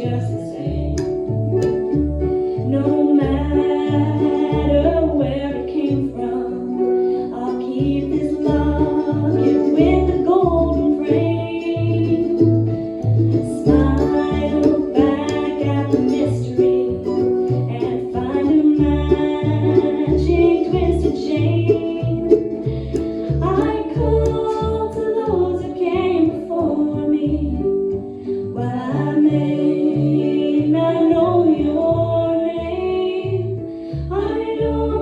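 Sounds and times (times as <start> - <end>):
acoustic band playing: 0.0 - 35.0
plucked bass notes: 0.0 - 35.0.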